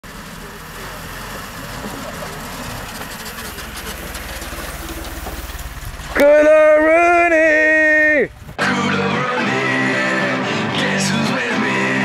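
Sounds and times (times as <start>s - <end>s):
jeep engine running: 0.0s - 12.0s.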